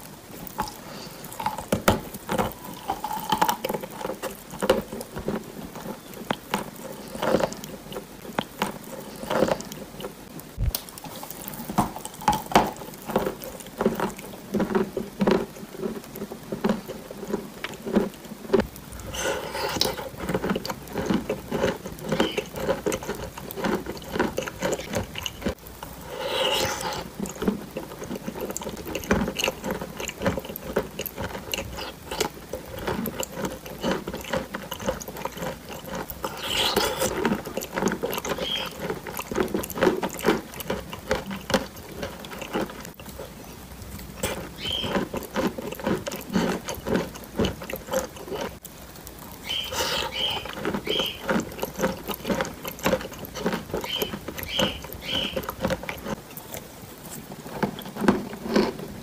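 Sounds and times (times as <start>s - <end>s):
chewing chalky block: 0.6s - 10.2s, 11.1s - 43.4s, 44.0s - 48.7s, 49.4s - 58.8s.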